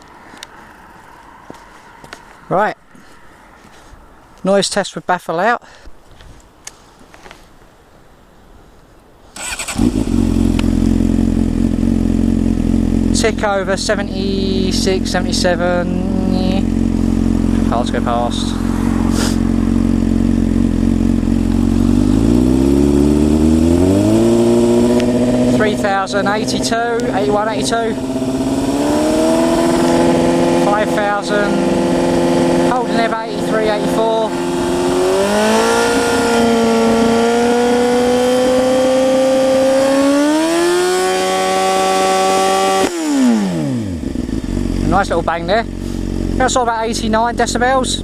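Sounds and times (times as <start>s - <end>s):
motorcycle engine idling and revving: 9.4s - 48.0s.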